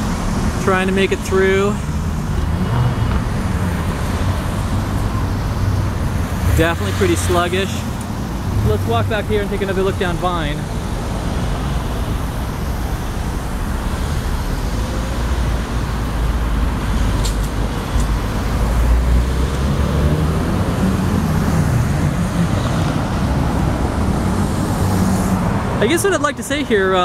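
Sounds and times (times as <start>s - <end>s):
traffic rumble of car engines: 0.0s - 27.0s.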